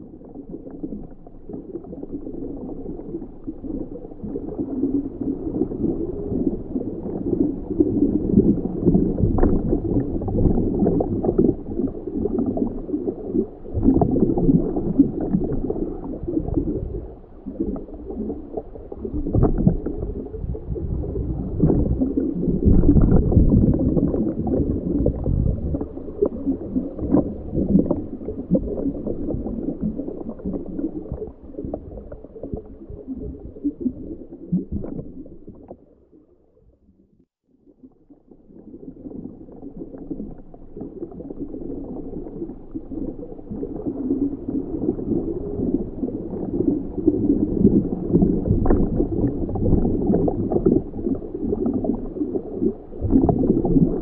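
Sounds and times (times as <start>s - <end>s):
underwater rumbling and gurgling: 0.0s - 54.0s.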